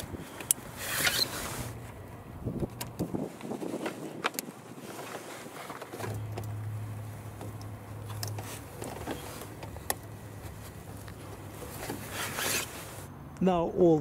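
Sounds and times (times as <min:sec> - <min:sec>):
rustling of cable and sleeves: 0:00.0 - 0:13.1.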